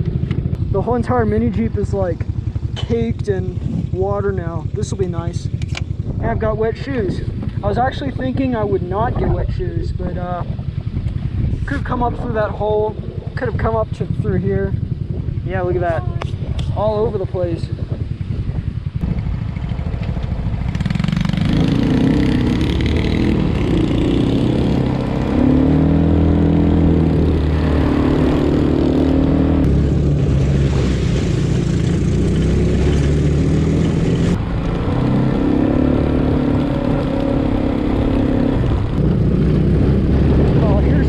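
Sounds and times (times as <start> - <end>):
atv engine running under load: 0.0 - 41.0.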